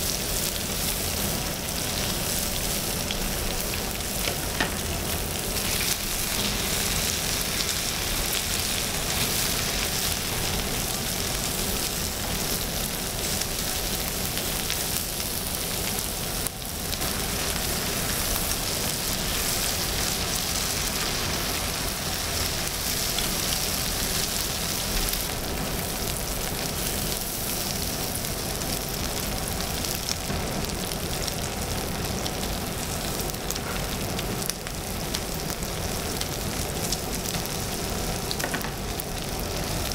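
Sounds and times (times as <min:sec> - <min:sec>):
food sizzling on griddle: 0:00.0 - 0:39.9.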